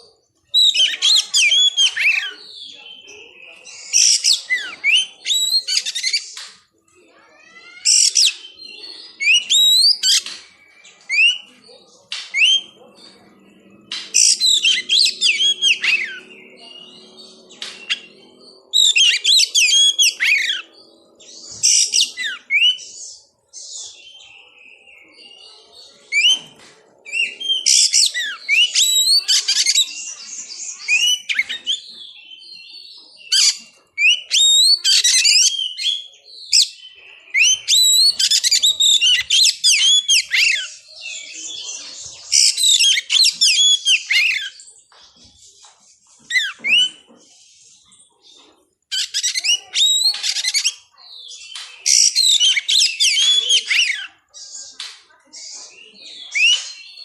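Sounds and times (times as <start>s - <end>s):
magpie-robin singing: 0.0s - 6.5s, 7.1s - 57.0s.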